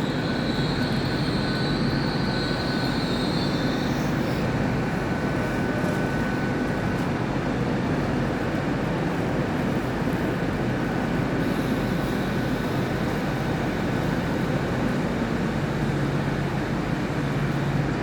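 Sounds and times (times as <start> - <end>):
high whine of train: 0.0 - 18.0.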